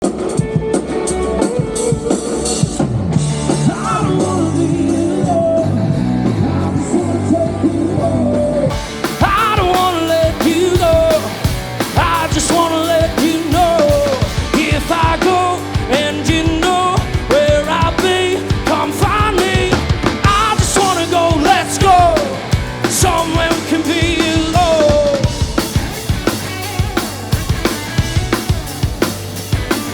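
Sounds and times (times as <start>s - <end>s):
live rock band playing: 0.0s - 7.0s, 8.7s - 29.9s
lead singer singing: 3.5s - 28.8s.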